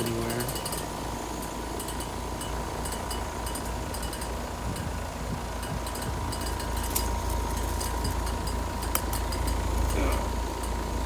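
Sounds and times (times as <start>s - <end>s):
compressor hum and fan noise: 0.0s - 11.0s
thin steady whine: 0.0s - 11.0s.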